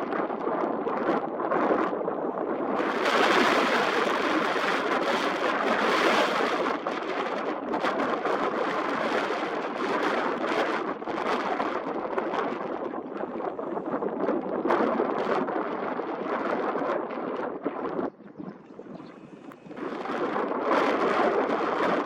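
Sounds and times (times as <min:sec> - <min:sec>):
gusty wind on microphone: 0:00.0 - 0:22.0.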